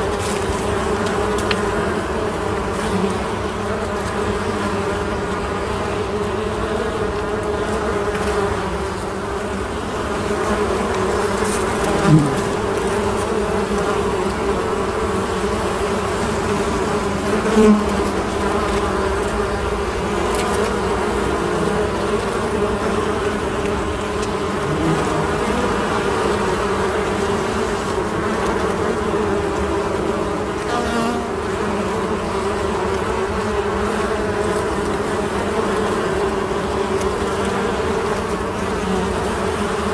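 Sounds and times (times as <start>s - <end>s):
bees buzzing: 0.0s - 39.9s
loud single bee buzz: 0.0s - 39.9s.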